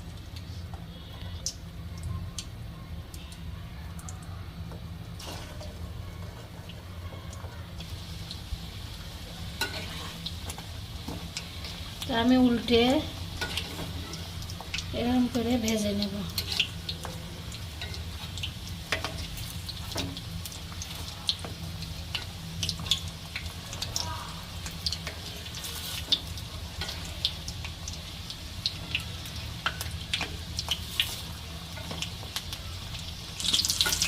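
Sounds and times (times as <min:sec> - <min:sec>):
food deep-frying in oil: 0:00.0 - 0:34.0
low steady hum: 0:00.0 - 0:34.0.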